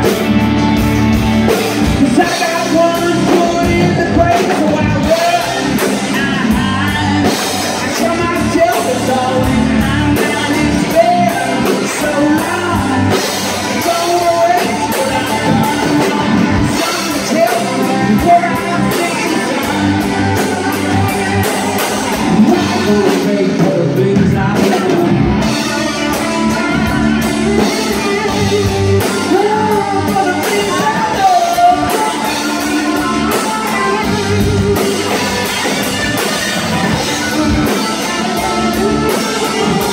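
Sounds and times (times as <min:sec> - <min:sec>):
drum kit: 0:00.0 - 0:39.9
electric guitars: 0:00.0 - 0:39.9
lead singer: 0:00.0 - 0:39.9.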